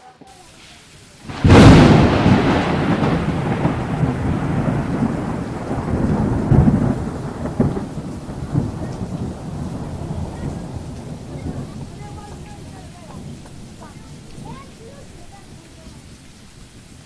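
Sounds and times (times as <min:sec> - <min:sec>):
rain falling: 0:00.0 - 0:17.0
thunder crack and rumble: 0:01.3 - 0:17.0.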